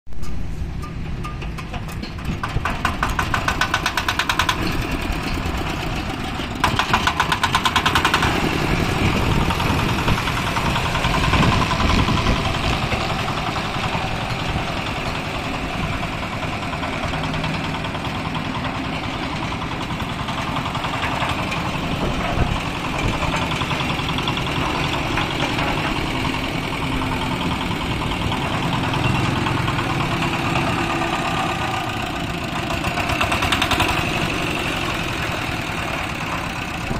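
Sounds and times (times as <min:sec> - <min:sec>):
diesel engine knocking: 0:00.8 - 0:36.9.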